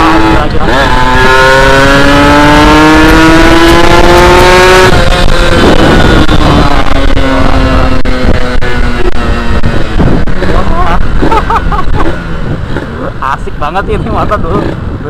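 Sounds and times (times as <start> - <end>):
motorcycle engine accelerating: 0.0 - 15.0
wind noise on microphone: 0.0 - 15.0.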